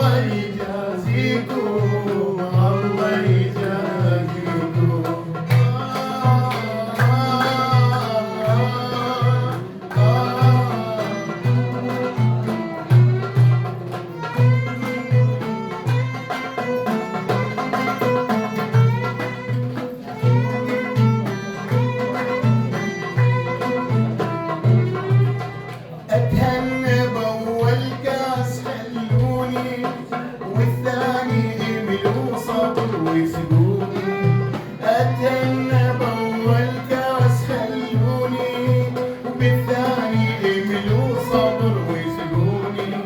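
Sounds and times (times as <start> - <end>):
bowed strings melody: 0.0 - 43.0.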